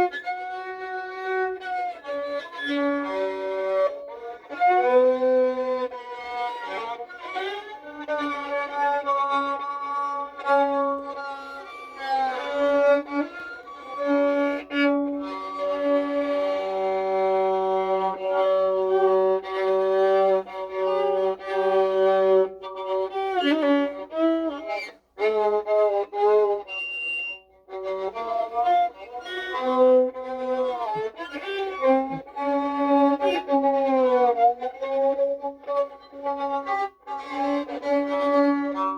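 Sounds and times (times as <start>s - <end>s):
violin-like solo melody with slides: 0.0s - 38.9s.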